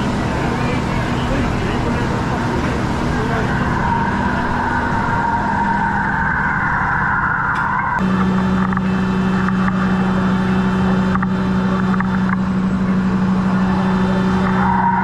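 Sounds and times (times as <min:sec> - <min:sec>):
fire engine running: 0:00.0 - 0:15.0
higher steady tone: 0:00.0 - 0:15.0.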